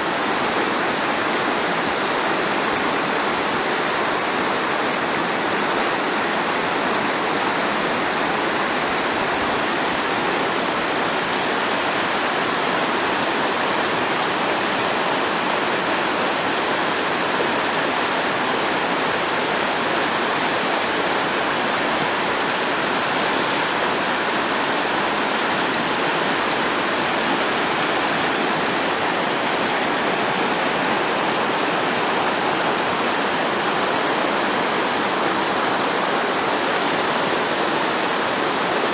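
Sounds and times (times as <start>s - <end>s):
river rushing over rapids: 0.0s - 38.9s.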